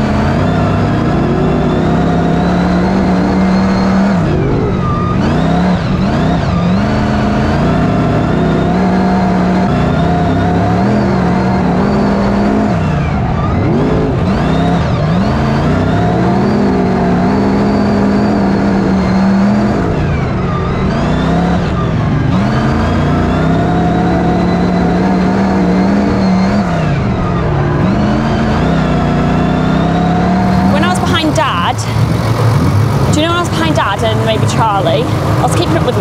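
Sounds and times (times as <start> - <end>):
race car engines roaring: 0.0 - 36.0.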